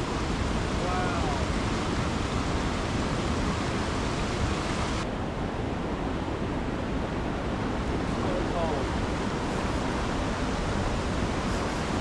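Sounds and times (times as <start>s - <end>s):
fast-flowing water rushing: 0.0s - 12.0s.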